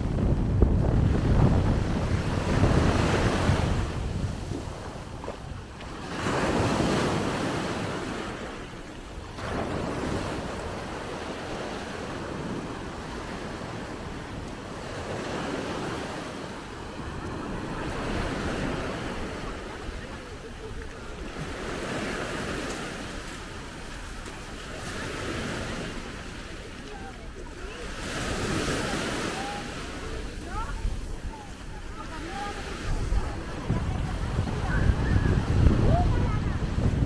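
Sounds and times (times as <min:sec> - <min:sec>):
wind noise on microphone: 0:00.0 - 0:26.2, 0:28.2 - 0:37.0
small waves breaking on beach: 0:00.0 - 0:37.0.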